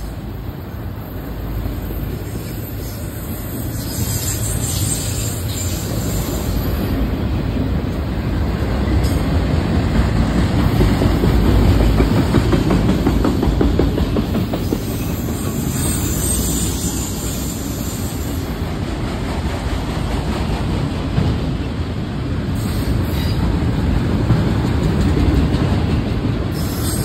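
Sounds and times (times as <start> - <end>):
clickety-clack over rail joints: 0.0 - 27.0
train wheels rumbling on rail: 0.0 - 27.0.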